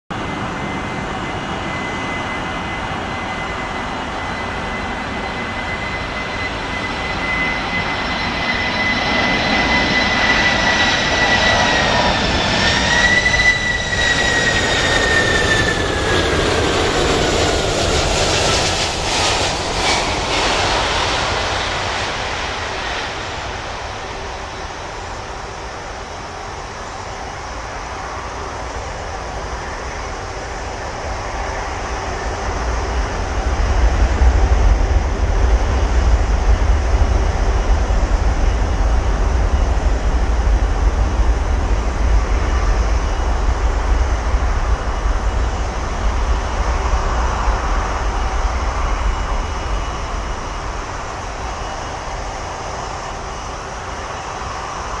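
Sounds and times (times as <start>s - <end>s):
jet engines whining and rumbling: 0.1s - 55.0s.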